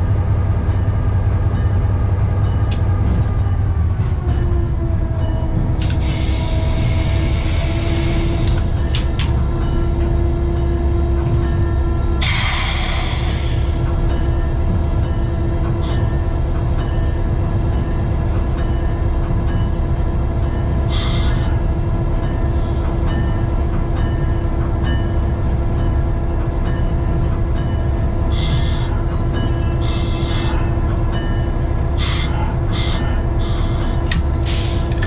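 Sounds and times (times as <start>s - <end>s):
diesel locomotive engine rumbling: 0.0s - 35.0s.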